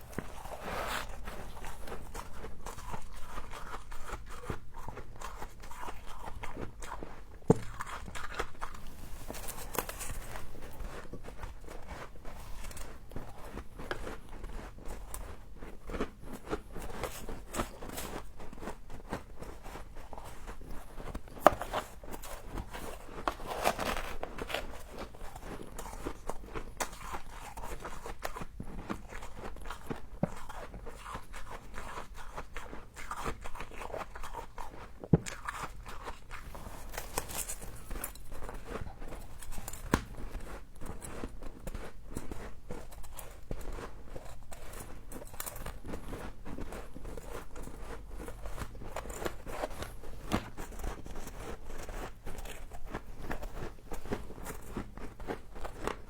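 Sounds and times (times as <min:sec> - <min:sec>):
crunching and chewing frost: 0:00.0 - 0:56.0.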